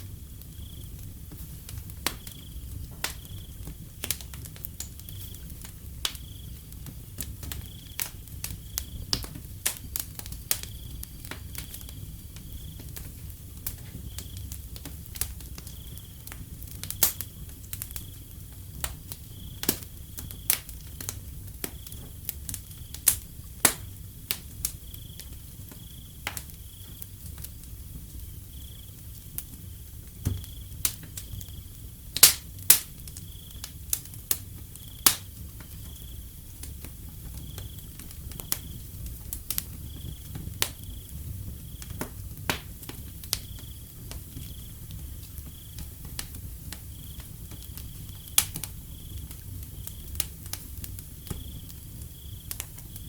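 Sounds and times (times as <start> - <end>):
cricket chirping: 0.0 - 3.9, 4.6 - 23.3, 23.9 - 42.1, 43.0 - 53.0
wood fire crackling and popping: 0.0 - 53.0.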